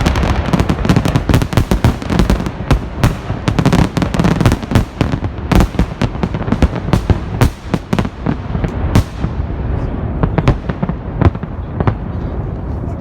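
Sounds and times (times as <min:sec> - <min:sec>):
fireworks bangs and crackle: 0:00.0 - 0:12.7.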